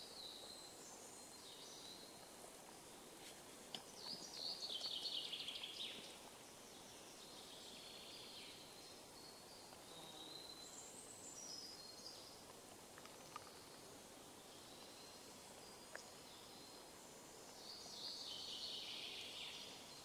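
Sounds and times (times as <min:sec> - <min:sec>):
small birds chirping: 0:03.8 - 0:20.0.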